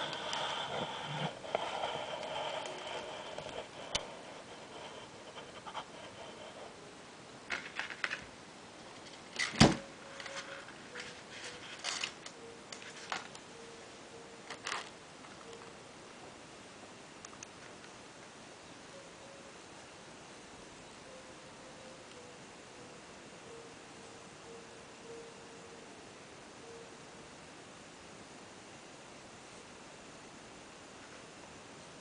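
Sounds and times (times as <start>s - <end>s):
faint steady whine: 0.0s - 32.0s.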